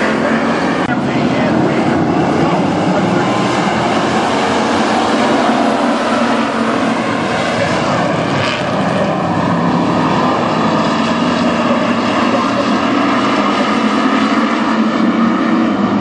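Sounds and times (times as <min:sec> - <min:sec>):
race car engines racing: 0:00.0 - 0:16.0.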